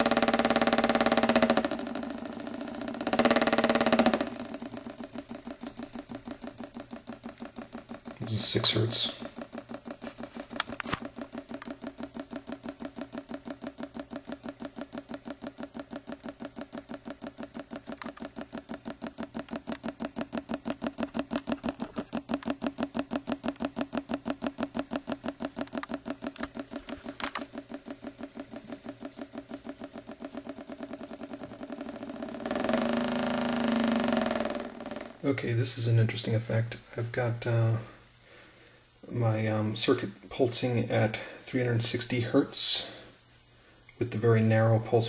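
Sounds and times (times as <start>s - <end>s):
magnets knocking in coil: 0.0s - 37.8s.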